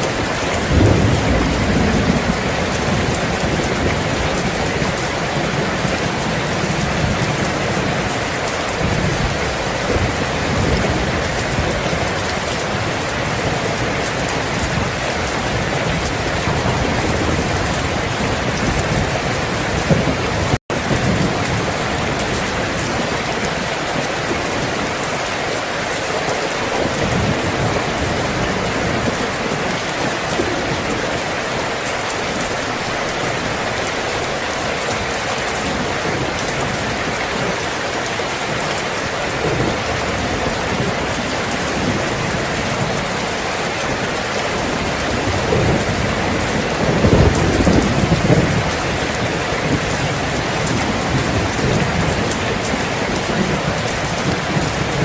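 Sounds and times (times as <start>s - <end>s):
low thunder rumbles: 0.0s - 25.3s, 26.5s - 55.0s
steady rain falling: 0.0s - 55.0s.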